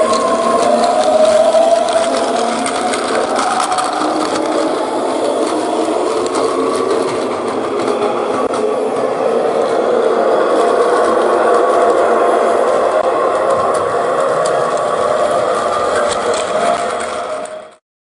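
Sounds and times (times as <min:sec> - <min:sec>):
toy train motors whirring: 0:00.0 - 0:17.8
wheels clicking on plastic track: 0:00.0 - 0:17.8.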